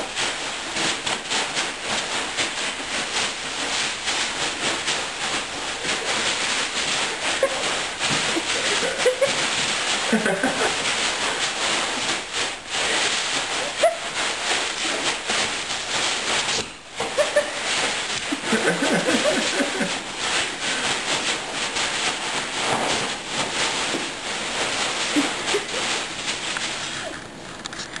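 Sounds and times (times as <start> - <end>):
bean bag rustling and crunching: 1.7 - 28.0.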